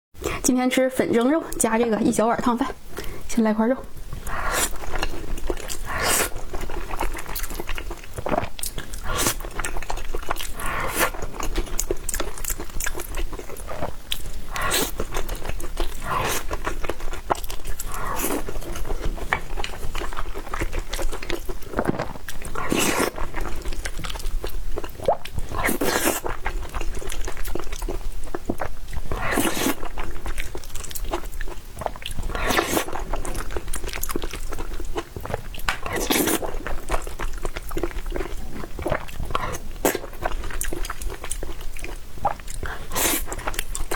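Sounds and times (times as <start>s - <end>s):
close chewing mouth clicks: 4.1s - 43.9s.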